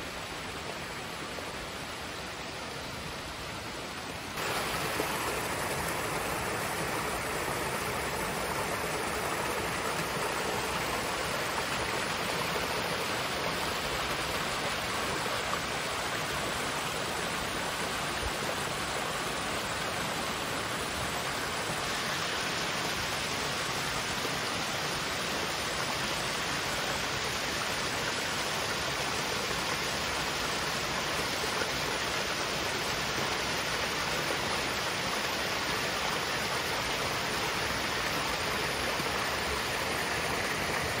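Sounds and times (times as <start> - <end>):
waterfall rushing and splashing: 0.0 - 41.0.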